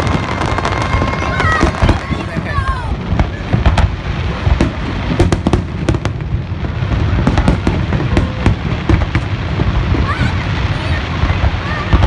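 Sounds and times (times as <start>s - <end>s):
firework cracks and bangs: 0.0s - 12.0s.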